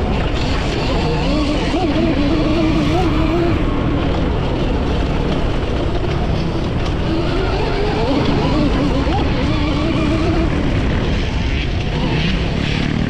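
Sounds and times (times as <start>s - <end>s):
electric motorbike motor whine: 0.0s - 13.0s.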